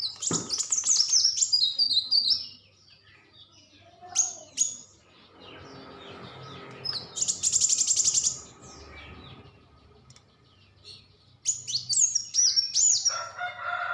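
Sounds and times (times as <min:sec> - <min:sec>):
songbird singing: 0:00.0 - 0:13.9.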